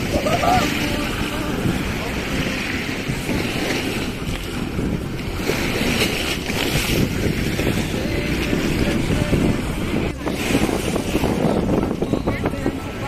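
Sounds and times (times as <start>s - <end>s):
small waves washing on concrete: 0.0s - 13.0s
wind rumble on microphone: 0.0s - 13.0s.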